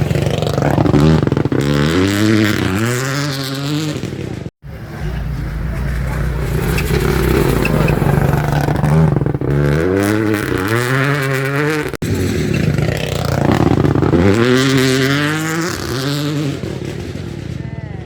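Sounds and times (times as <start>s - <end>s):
rally car engines revving: 0.0s - 18.0s.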